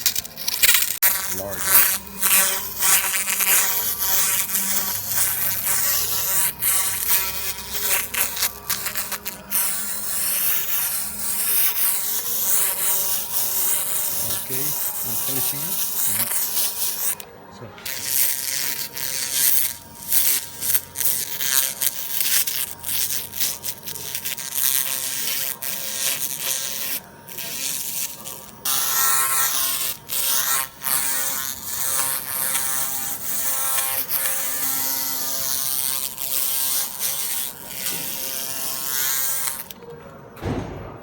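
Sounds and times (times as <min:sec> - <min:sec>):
laser cleaner buzzing hiss: 0:00.6 - 0:17.2, 0:17.8 - 0:39.7.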